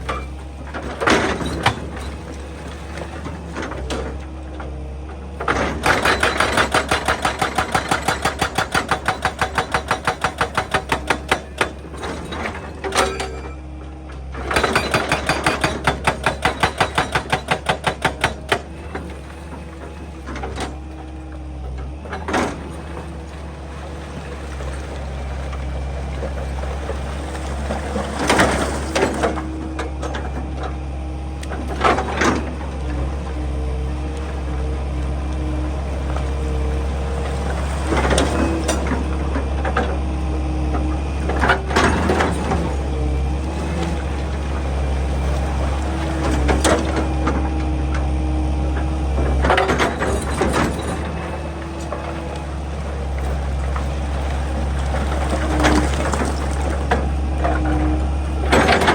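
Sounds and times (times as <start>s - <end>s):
excavator diesel engine humming: 0.0s - 58.9s.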